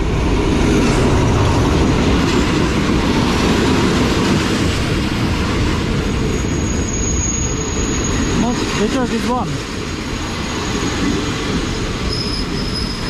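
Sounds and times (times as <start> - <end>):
train passing on rails: 0.0 - 13.0.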